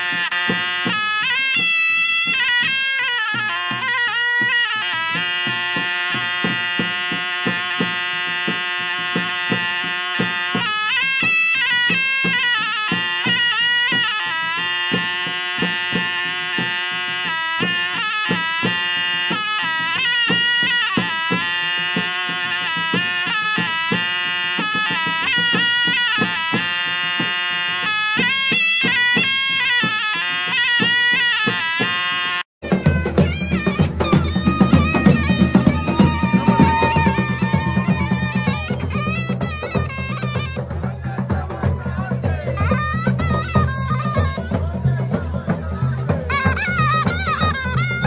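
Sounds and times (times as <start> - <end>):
hand drum strokes: 0.0 - 48.0
nasal reed pipe melody: 0.0 - 48.0.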